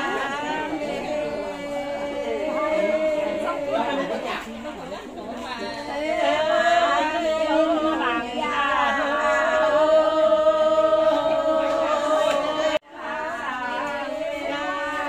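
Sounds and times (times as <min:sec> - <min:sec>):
person singing a slow chant: 0:00.0 - 0:04.9, 0:05.5 - 0:15.0.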